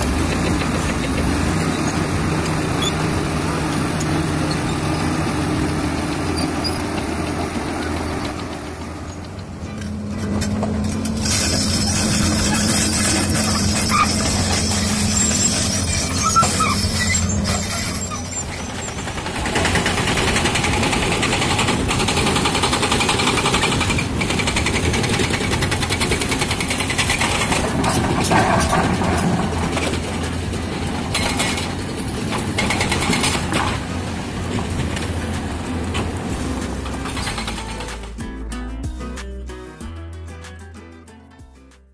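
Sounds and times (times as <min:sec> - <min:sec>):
heavy diesel machinery running: 0:00.0 - 0:39.2.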